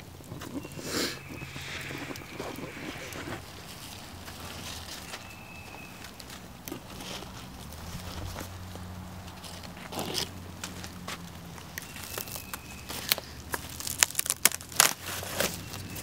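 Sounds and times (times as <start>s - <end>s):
bark scraping and crackling: 0.0s - 16.0s.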